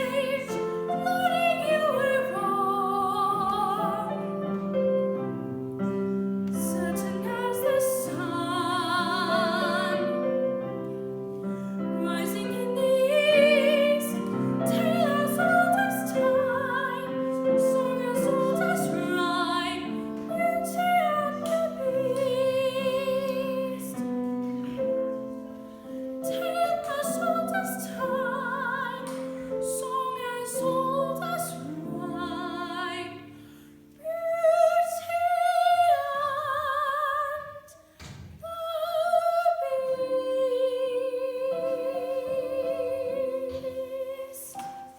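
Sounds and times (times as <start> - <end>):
piano accompaniment: 0.0 - 44.9.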